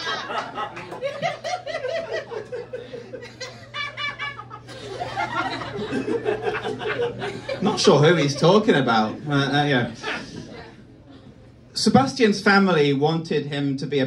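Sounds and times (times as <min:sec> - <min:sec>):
audience laughing: 0:00.0 - 0:11.4.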